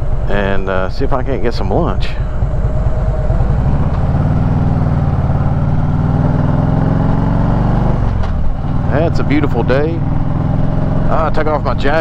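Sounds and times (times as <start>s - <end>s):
motorcycle engine revving up: 1.7s - 12.0s.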